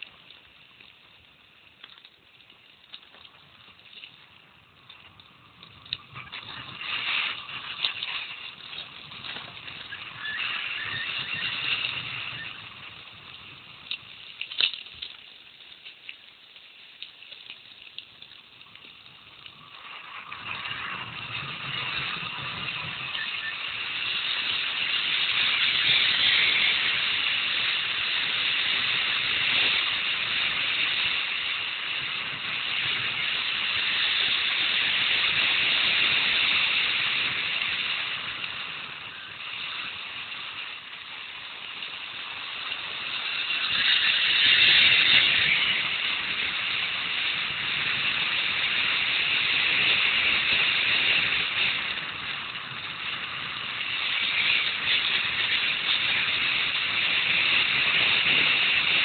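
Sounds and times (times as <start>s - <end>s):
bike clicks and rattles: 0.0s - 59.0s
bike rolling on gravel: 0.0s - 59.0s.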